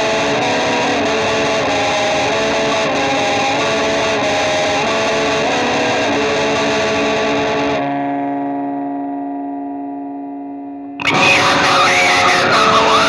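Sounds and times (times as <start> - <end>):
rock music with distorted guitar: 0.0 - 13.0
held guitar chord ringing: 0.2 - 13.0.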